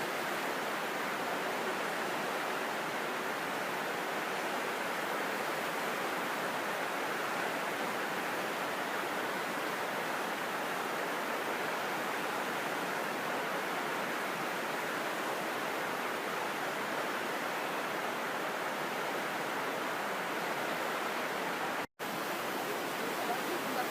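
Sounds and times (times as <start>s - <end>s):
rushing stream water: 0.0s - 23.9s.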